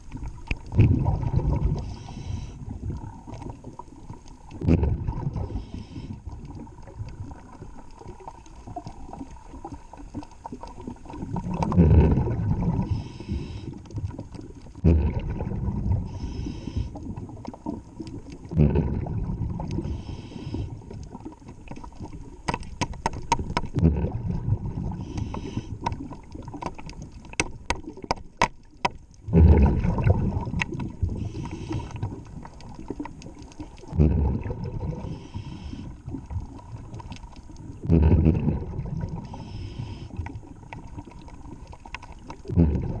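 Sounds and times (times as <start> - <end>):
exhaled bubbles rushing underwater: 0.0 - 43.0.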